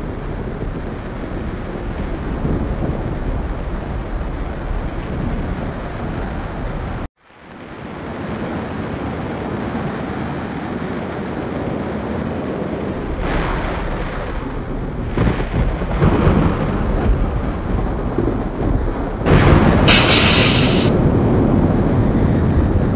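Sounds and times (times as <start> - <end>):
wind and rain rushing: 0.0 - 22.9.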